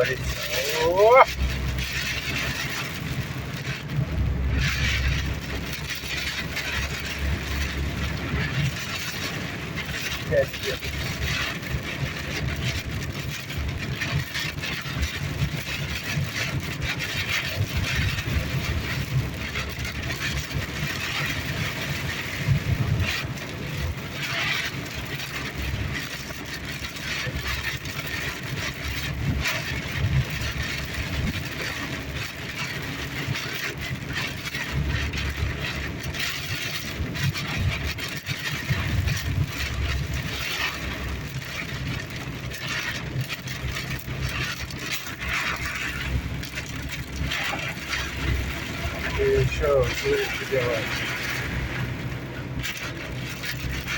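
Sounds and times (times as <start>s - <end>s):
rain on car body: 0.0s - 53.9s
road and engine rumble: 0.0s - 53.9s.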